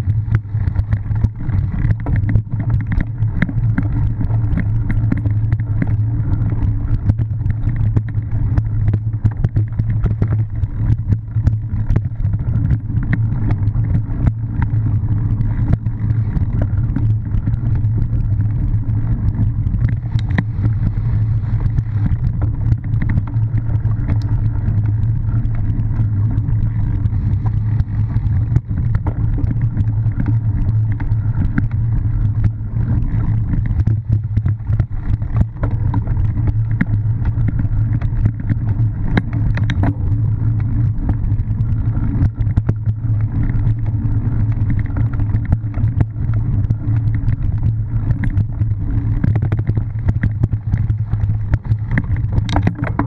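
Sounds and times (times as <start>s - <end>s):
bike rattles and knocks: 0.0s - 53.0s
wind and ride vibration rumble: 0.0s - 53.0s.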